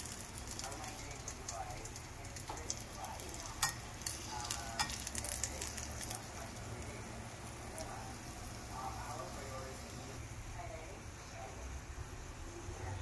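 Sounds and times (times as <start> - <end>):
food deep-frying with crackles: 0.0 - 13.0.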